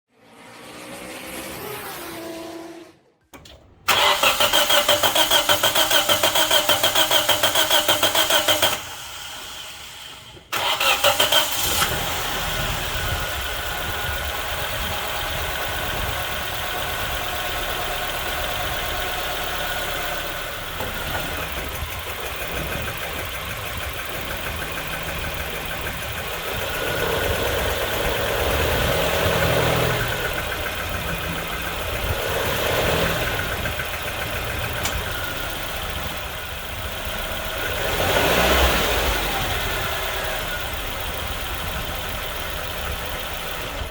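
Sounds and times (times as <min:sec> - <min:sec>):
car engine idling: 0:03.3 - 0:43.9
starter motor cranking engine: 0:03.3 - 0:43.9.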